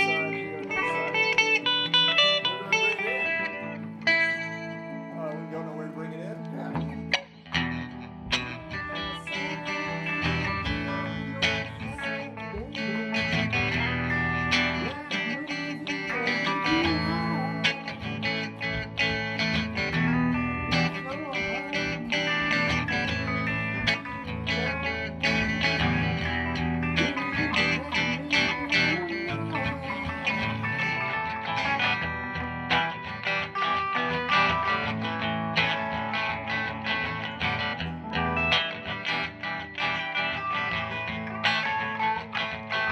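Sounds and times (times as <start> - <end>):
guitar chords plucked and strummed: 0.0 - 42.9.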